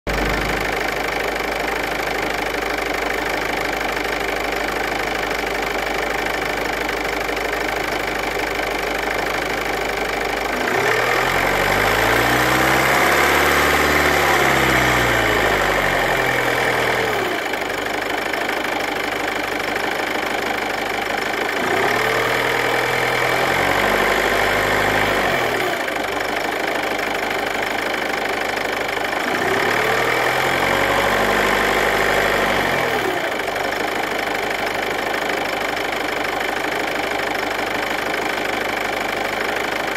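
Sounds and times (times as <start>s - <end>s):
car engine idling and revving: 0.1s - 39.9s
engine rattle: 0.1s - 39.9s.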